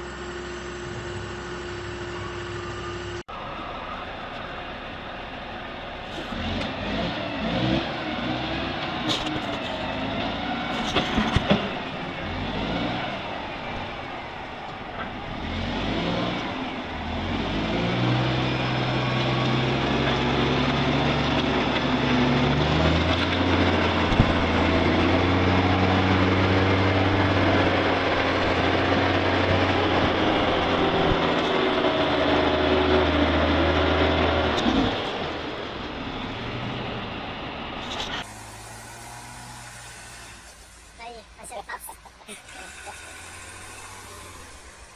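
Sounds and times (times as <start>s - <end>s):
loud engine droning: 0.0s - 41.4s, 42.0s - 44.9s
vehicle engine revving: 6.0s - 41.0s, 42.4s - 44.9s.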